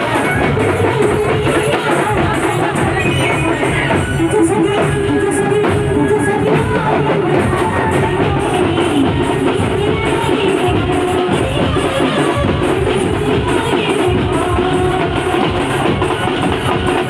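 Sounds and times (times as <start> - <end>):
person singing with accompaniment: 0.0 - 17.0.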